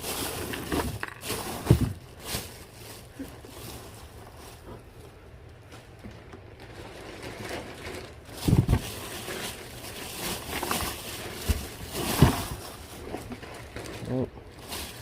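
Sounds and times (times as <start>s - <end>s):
rustling of bagged items: 0.0s - 15.0s.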